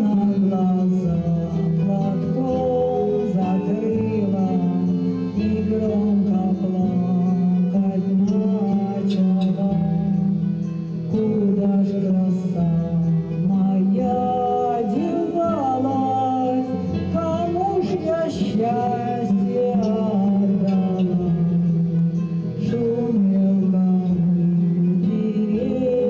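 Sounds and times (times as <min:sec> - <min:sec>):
acoustic guitar: 0:00.0 - 0:26.0
person singing slow melody: 0:00.0 - 0:26.0.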